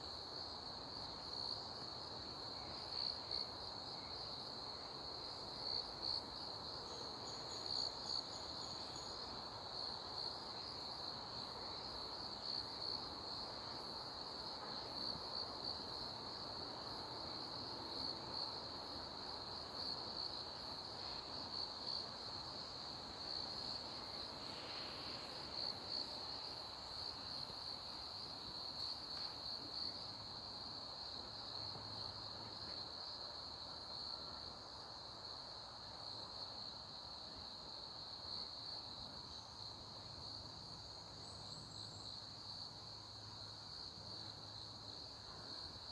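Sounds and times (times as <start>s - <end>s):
faint background hiss: 0.0s - 45.9s.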